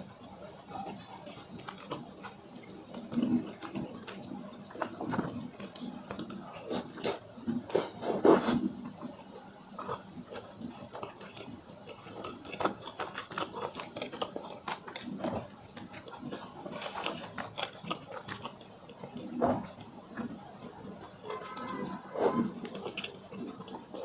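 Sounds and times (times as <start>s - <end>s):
person chewing with wet mouth sounds: 0.0s - 24.0s.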